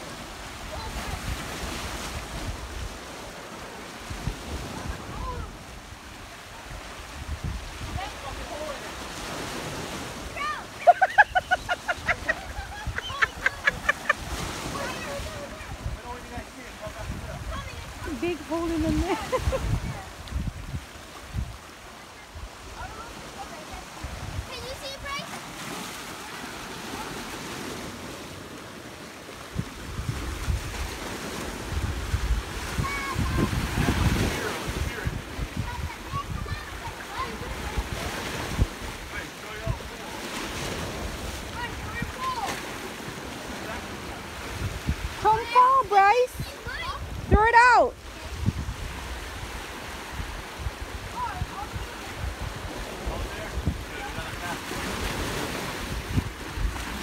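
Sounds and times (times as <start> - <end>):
wind buffeting microphone: 0.0 - 28.5, 29.4 - 42.5, 43.1 - 57.0
surf breaking on rocks: 0.0 - 57.0.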